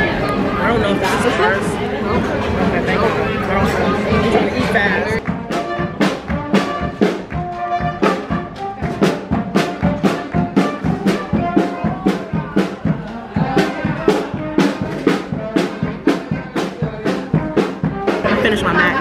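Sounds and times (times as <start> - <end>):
upbeat music with brass horns: 0.3 - 19.0.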